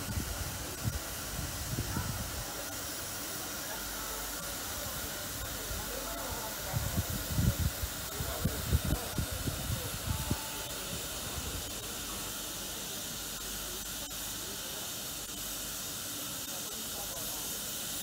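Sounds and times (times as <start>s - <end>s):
steam hissing from locomotive: 0.0s - 18.0s.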